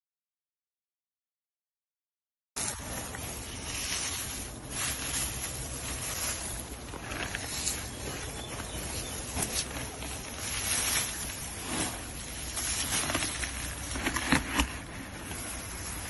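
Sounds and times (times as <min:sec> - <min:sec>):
hands rustling through dry leaves: 0:02.6 - 0:16.0.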